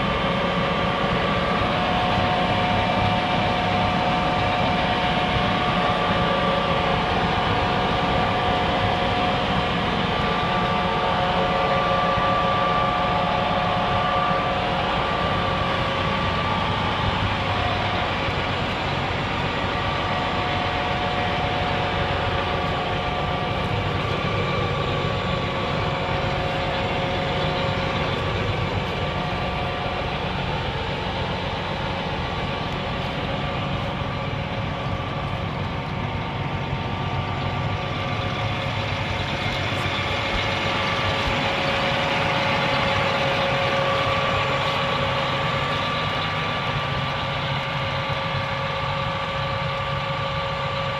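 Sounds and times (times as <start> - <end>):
tractor diesel engine running: 0.0 - 50.9
whine: 0.0 - 50.9.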